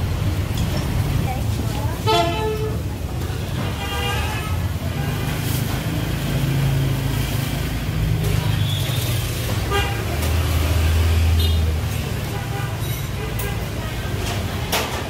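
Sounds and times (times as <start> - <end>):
street traffic engine hum: 0.0 - 15.0.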